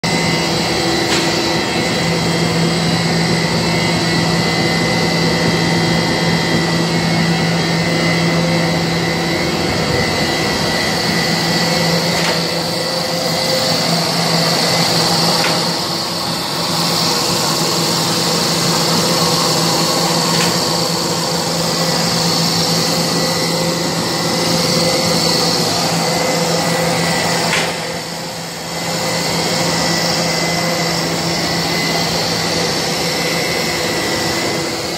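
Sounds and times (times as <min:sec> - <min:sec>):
extruder machine hum: 0:00.0 - 0:34.9
high machine whine: 0:00.0 - 0:34.9.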